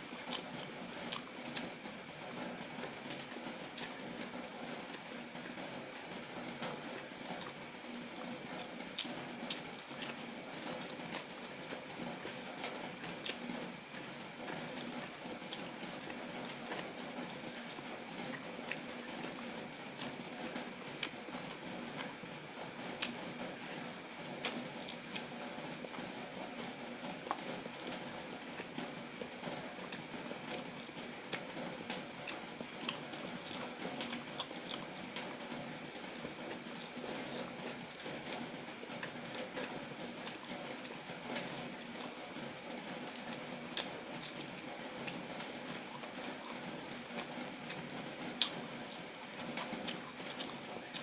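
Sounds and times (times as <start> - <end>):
chewing noodles: 0.1 - 51.0.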